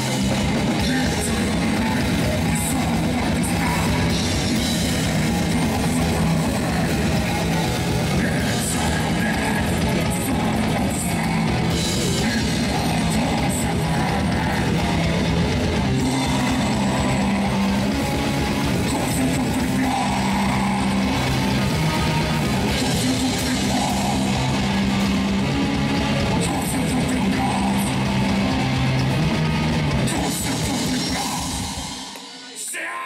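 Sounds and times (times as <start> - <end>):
bass guitar: 0.0 - 32.5
distorted electric guitar: 0.0 - 33.0
drums: 0.0 - 33.0.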